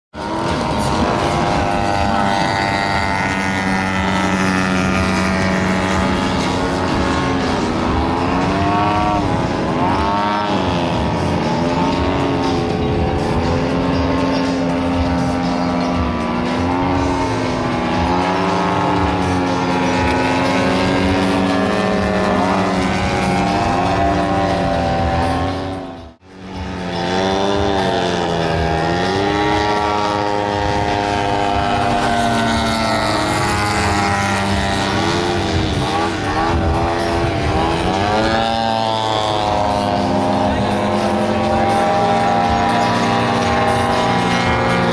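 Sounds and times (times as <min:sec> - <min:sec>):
model plane engine: 0:00.1 - 0:44.9.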